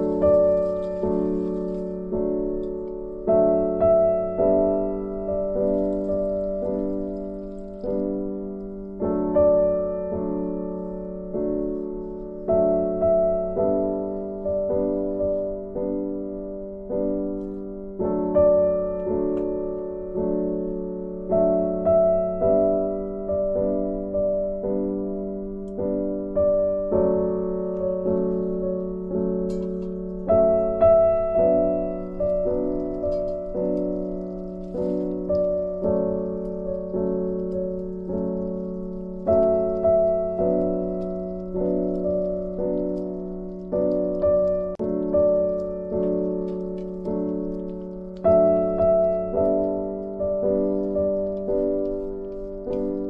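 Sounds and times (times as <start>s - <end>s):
slow piano music: 0.0s - 53.0s.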